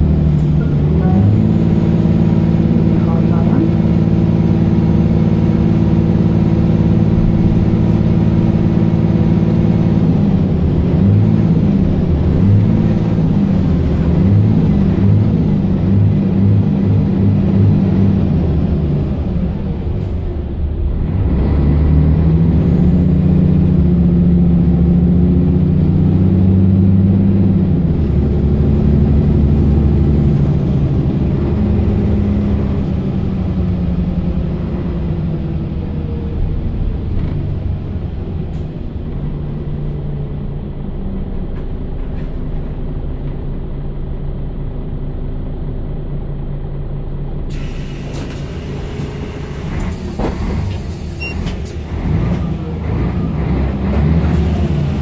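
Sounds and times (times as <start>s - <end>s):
bus diesel engine revving: 0.0s - 45.2s, 46.0s - 55.0s.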